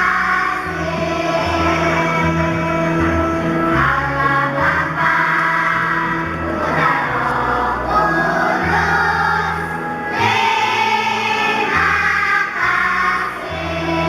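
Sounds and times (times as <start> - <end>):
children's choir singing: 0.0 - 14.0
instrumental accompaniment with bass: 0.0 - 14.0.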